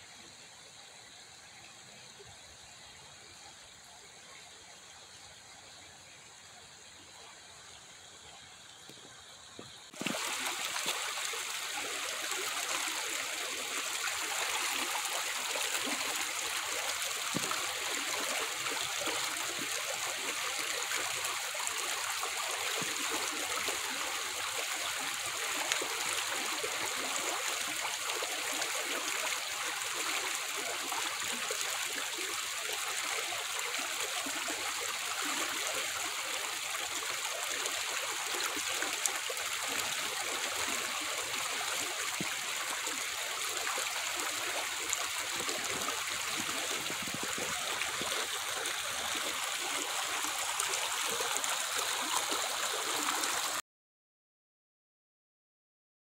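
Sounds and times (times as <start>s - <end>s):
creek flowing over stones: 0.0s - 53.6s.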